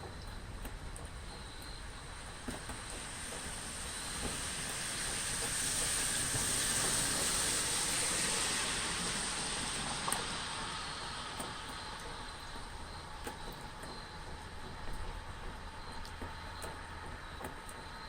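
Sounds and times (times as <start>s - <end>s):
rain falling: 0.4s - 17.9s.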